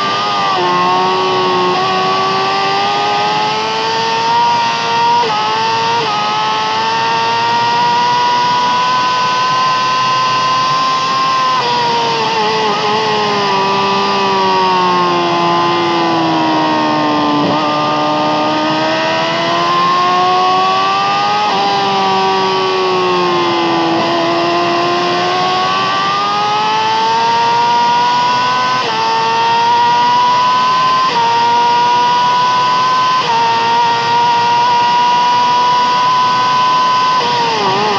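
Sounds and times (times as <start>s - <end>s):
gear changes: 0.0s - 37.9s
motorcycle engine revving: 0.0s - 37.9s.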